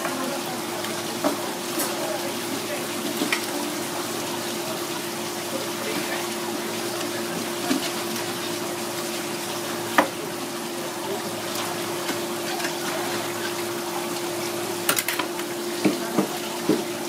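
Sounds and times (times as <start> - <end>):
even hum: 0.0 - 17.0
running water rushing: 0.0 - 17.0.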